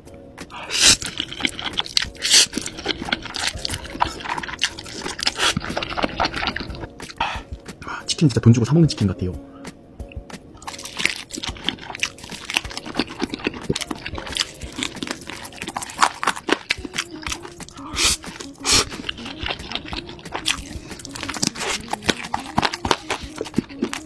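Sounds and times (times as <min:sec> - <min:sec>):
crunchy bites and wet chewing: 0:00.5 - 0:07.4, 0:10.6 - 0:24.0
slurping noodles: 0:00.5 - 0:07.4, 0:10.6 - 0:24.0.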